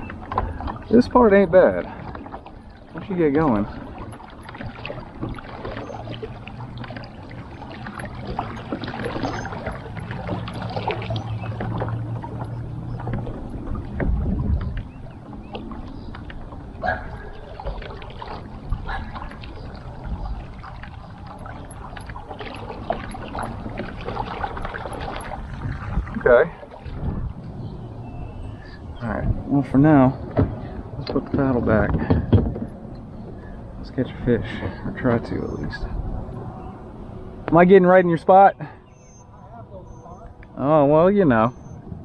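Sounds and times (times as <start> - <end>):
water splashing and gurgling: 0.0 - 37.4.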